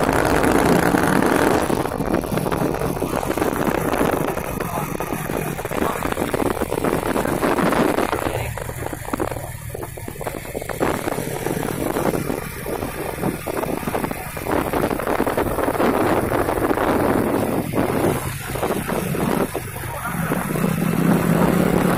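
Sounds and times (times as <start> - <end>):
truck engine rumbling: 0.0 - 21.9.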